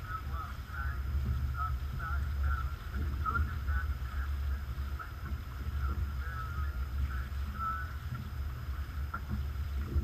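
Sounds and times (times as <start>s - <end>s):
sailboat low rumble: 0.0s - 10.0s.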